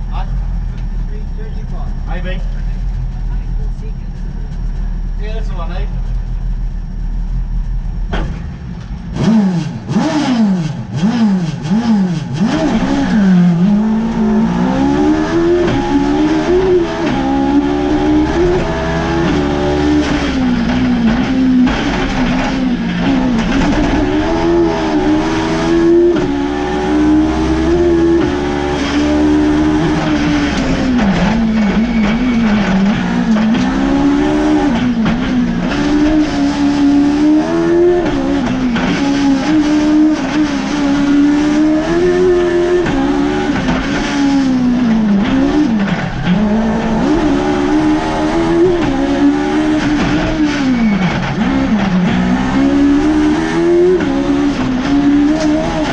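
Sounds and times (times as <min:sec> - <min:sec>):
motorcycle engine revving hard: 0:09.1 - 0:55.9.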